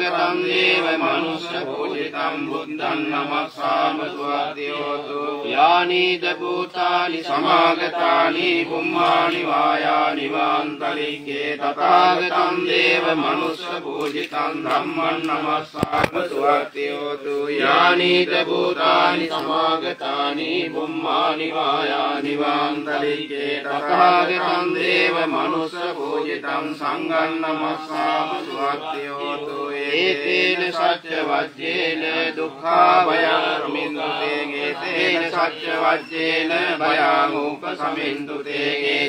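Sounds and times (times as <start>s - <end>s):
men chanting together: 0.0s - 39.0s.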